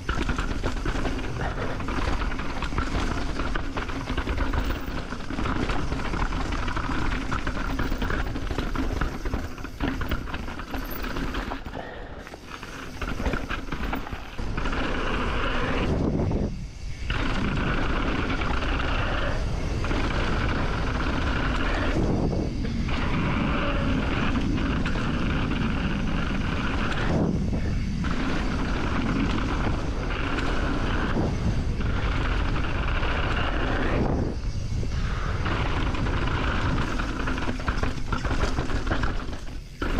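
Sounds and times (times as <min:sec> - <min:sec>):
bike tyres rumbling on dirt: 0:00.0 - 0:39.9
wind on microphone: 0:00.0 - 0:39.9.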